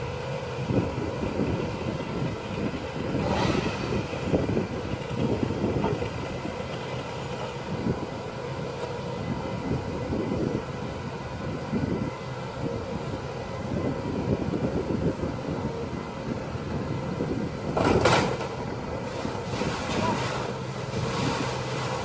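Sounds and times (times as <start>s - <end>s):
faint steady whine: 0.0s - 22.0s
truck engine rumbling: 0.0s - 22.0s.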